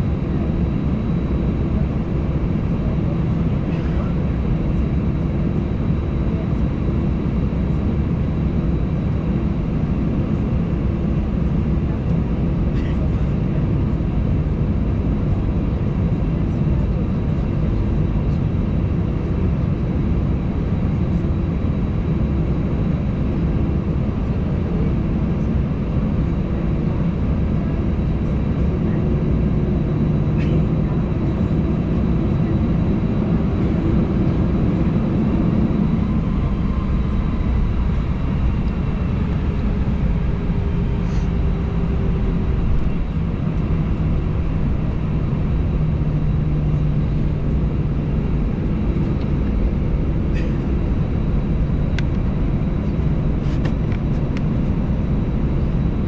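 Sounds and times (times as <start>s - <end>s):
jet engines idling rumble: 0.0s - 56.0s.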